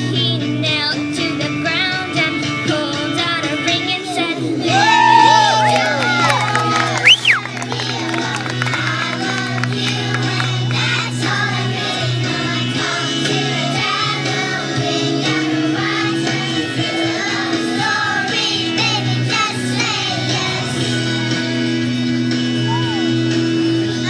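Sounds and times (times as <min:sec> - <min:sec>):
children's choir singing pop song: 0:00.0 - 0:06.2, 0:07.4 - 0:21.9.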